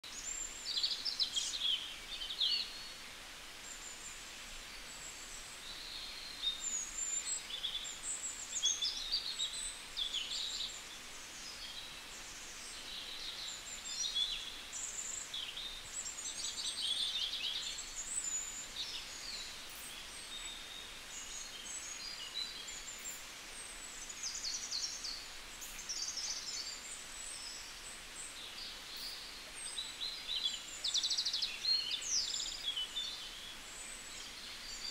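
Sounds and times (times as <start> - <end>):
faint steady hiss: 0.0 - 34.9
small birds chirping and trilling: 0.0 - 34.9.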